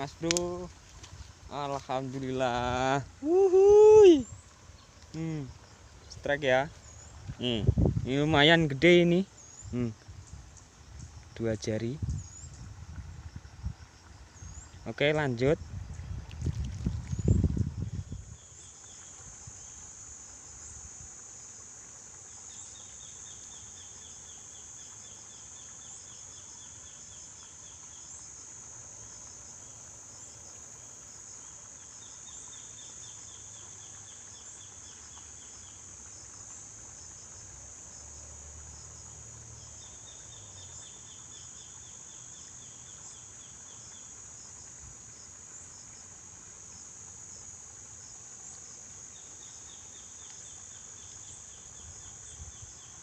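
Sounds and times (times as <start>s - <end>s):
insects high-pitched drone: 0.0s - 16.2s, 16.9s - 53.0s
insect chirping runs: 0.0s - 53.0s.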